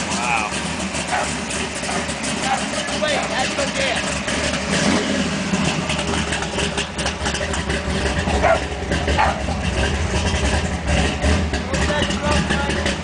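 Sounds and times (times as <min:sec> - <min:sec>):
engine idling with low rumble: 0:00.0 - 0:13.0.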